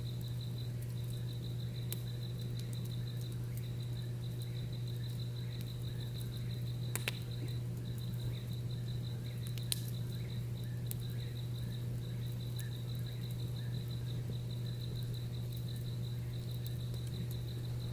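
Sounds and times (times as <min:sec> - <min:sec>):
campfire popping: 0:00.0 - 0:17.9
night insects trilling: 0:00.0 - 0:17.9
steady low hum: 0:00.0 - 0:17.9
faint chirps: 0:00.1 - 0:17.9.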